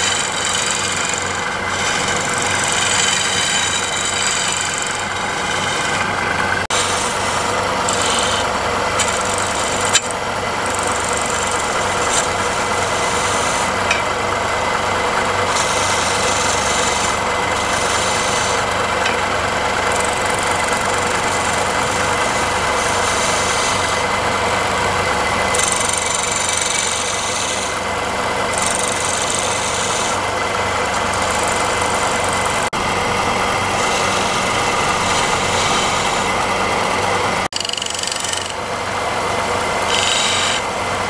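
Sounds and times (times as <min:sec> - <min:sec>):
chisel cutting spinning wood: 0:00.0 - 0:41.0
wood lathe humming: 0:00.0 - 0:41.0.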